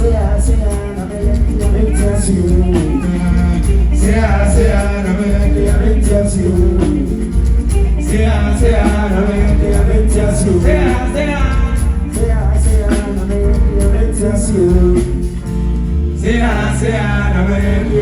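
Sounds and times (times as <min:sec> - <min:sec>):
person singing: 0:00.0 - 0:15.4
live band playing: 0:00.0 - 0:18.0.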